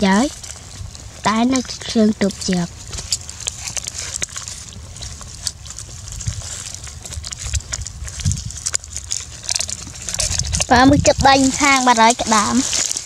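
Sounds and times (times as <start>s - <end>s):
dry leaves rustling: 0.0s - 13.0s.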